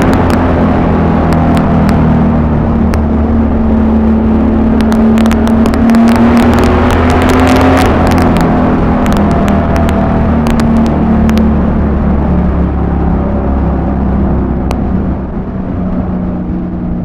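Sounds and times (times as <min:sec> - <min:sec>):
exhaust crackles: 0:00.0 - 0:17.0
motorcycle engine running loud: 0:00.0 - 0:17.0.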